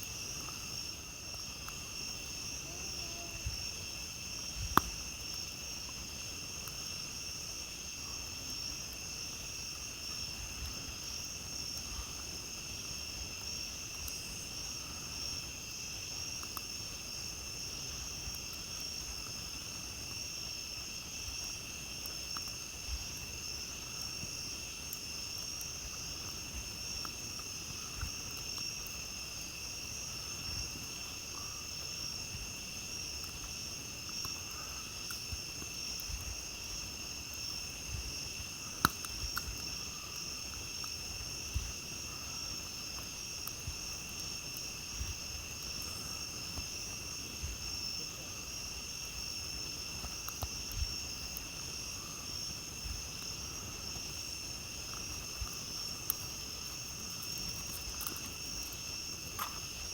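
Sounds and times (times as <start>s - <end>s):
campfire crackling softly: 0.0s - 59.9s
crickets trilling: 0.0s - 59.9s.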